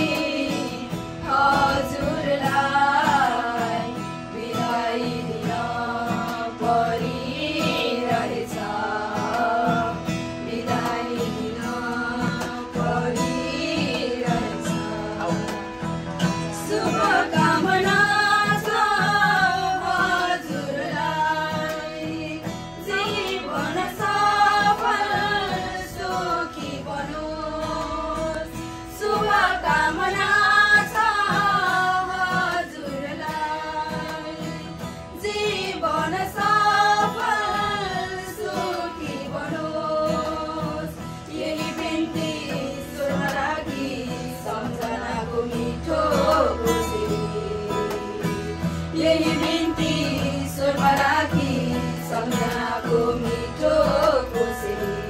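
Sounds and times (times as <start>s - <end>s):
acoustic guitar: 0.0s - 55.0s
women singing together: 0.0s - 55.0s.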